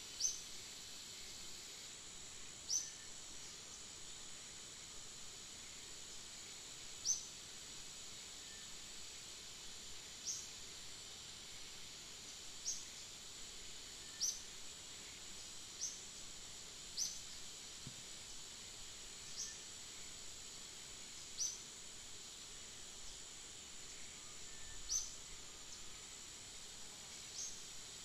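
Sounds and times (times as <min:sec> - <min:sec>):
high insect hum: 0:00.0 - 0:28.0.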